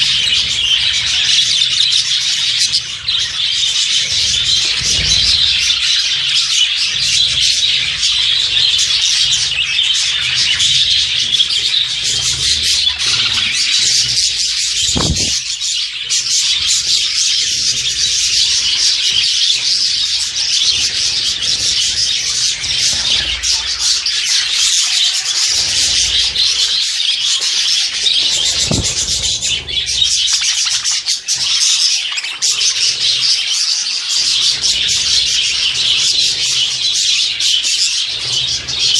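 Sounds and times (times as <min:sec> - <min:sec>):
small birds chattering and chirping: 0:00.0 - 0:38.9.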